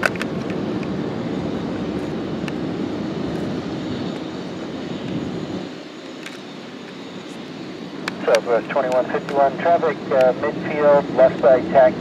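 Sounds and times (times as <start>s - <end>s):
airplane engine noise: 0.0s - 12.0s.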